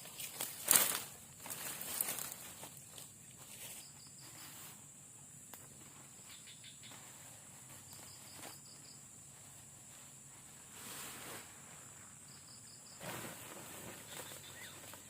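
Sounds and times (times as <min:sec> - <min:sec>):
crickets chirping rapidly: 0:00.0 - 0:15.0
insects droning: 0:00.0 - 0:15.0.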